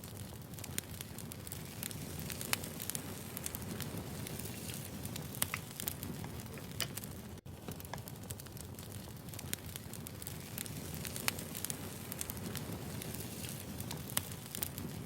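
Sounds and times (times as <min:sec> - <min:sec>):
firewood crackling and popping: 0:00.0 - 0:15.0
low rumble of fire: 0:00.0 - 0:15.0.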